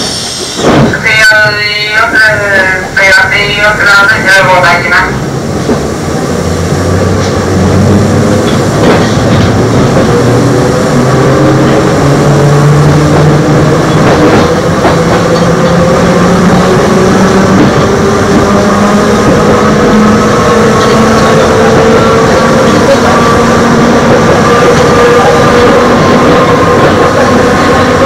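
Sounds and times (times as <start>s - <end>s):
train wheel and running noise: 0.0s - 28.0s.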